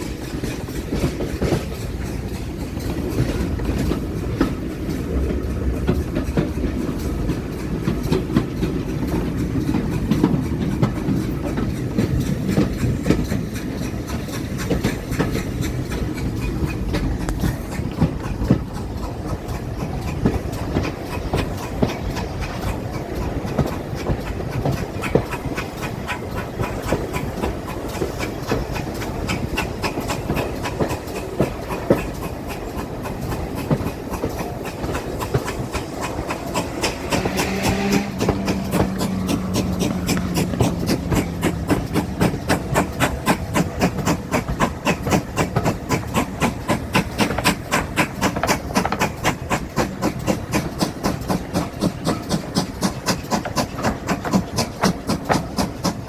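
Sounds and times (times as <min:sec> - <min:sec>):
train rumbling along track: 0:00.0 - 0:56.0
wheels clicking over rail joints: 0:00.0 - 0:56.0.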